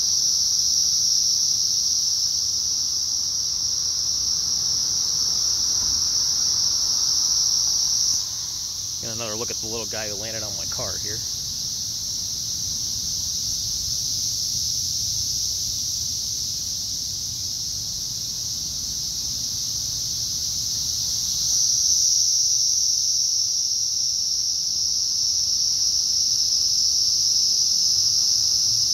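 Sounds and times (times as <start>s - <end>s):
cicadas droning: 0.0s - 28.9s.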